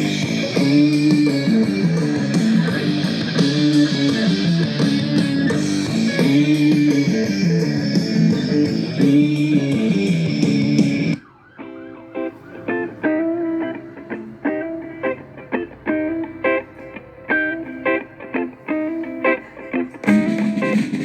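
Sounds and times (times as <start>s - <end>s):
guitar music: 0.0s - 21.0s.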